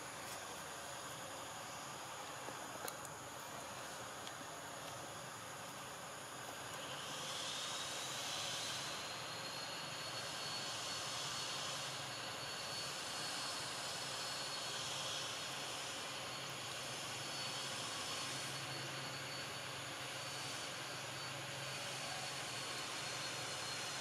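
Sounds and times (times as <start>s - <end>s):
outdoor background hiss: 0.0s - 24.0s
thin high whine: 0.0s - 24.0s.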